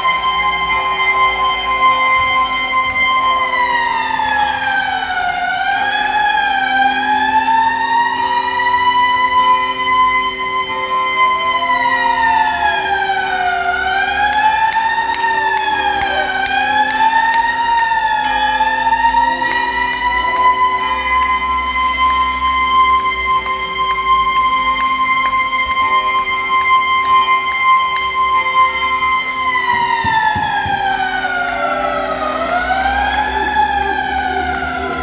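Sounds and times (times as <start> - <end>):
wailing siren: 0.0 - 35.0.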